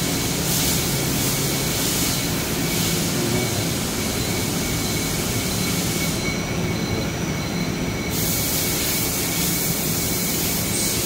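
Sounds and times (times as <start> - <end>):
lathe running with thin whine: 0.0 - 11.0.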